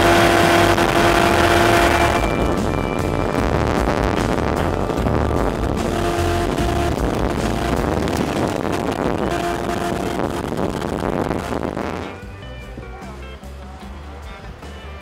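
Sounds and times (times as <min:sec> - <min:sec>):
wind buffeting microphone: 0:00.0 - 0:12.9
background music: 0:00.0 - 0:15.0
boat motor running: 0:00.0 - 0:15.0.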